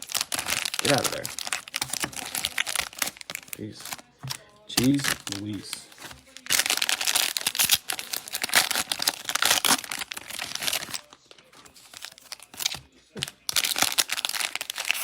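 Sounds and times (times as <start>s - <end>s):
plastic wrapping crinkling and tearing: 0.0s - 15.0s.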